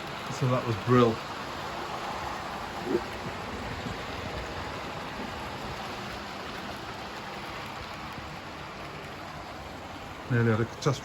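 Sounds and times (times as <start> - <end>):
model trains whirring on track: 0.0 - 11.0.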